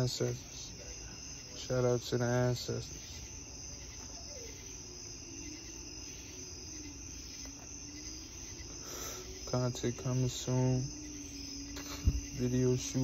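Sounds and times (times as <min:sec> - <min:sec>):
crickets chirring: 0:00.0 - 0:13.0
faint low hum: 0:00.0 - 0:13.0.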